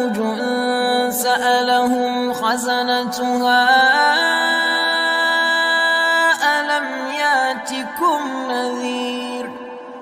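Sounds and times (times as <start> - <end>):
man chanting melodic recitation: 0.0 - 10.0.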